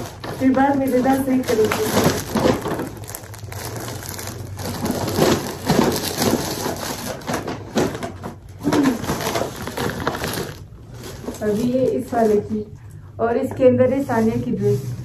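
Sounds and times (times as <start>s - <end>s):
plastic bags rustling: 0.0s - 12.7s.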